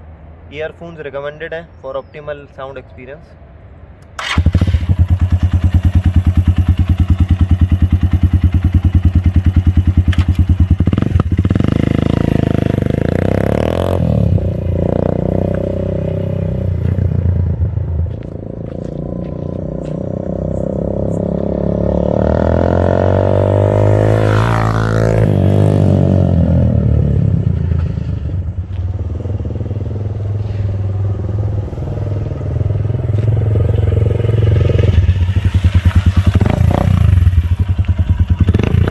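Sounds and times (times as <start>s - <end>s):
motorcycle engine idling and revving: 4.2s - 38.9s.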